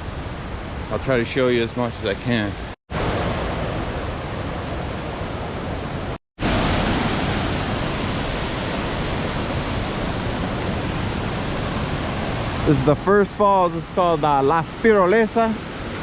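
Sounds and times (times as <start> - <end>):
river water rushing: 2.9 - 16.0.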